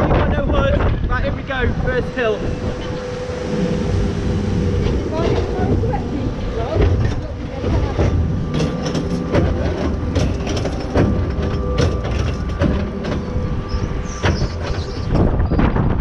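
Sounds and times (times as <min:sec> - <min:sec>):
conveyor clanks: 0:00.0 - 0:16.0
conveyor mechanical hum and rumble: 0:00.0 - 0:16.0.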